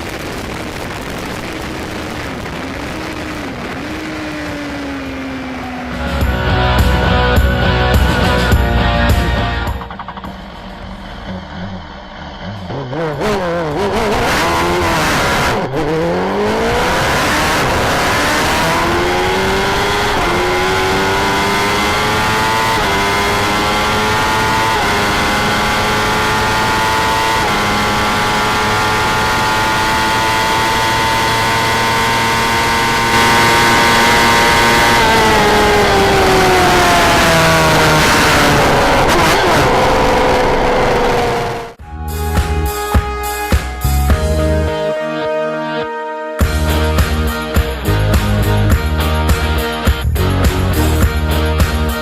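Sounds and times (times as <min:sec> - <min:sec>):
motorbike engine accelerating: 0:00.0 - 0:41.8.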